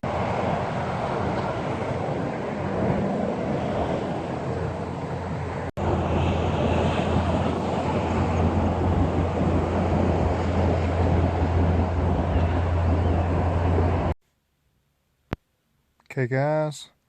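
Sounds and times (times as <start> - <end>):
wind noise on microphone: 0.0 - 14.2.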